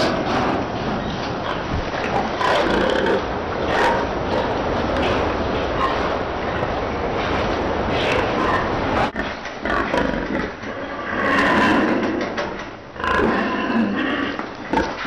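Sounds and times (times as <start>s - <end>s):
noisy barn din: 0.0s - 15.0s
pigs squealing and grunting: 1.4s - 12.3s, 13.0s - 15.0s.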